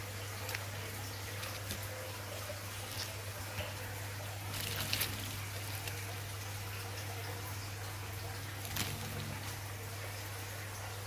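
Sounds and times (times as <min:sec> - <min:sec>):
dry nests rustling and crackling: 0:00.0 - 0:10.1.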